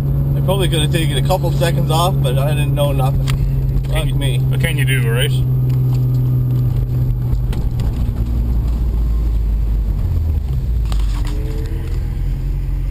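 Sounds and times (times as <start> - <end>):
car engine running at low speed: 0.0 - 12.9.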